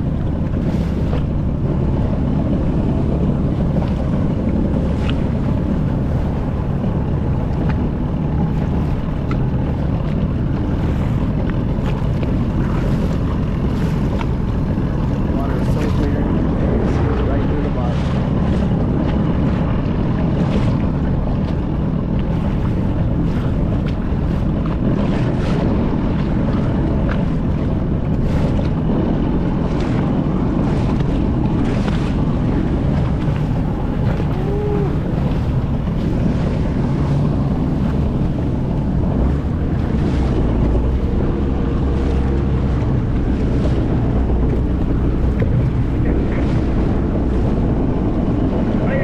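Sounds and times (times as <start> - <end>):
boat engine running: 0.0 - 49.0
short water splashes: 0.0 - 49.0
water rushing past: 0.0 - 49.0
wind buffeting microphone: 0.0 - 49.0.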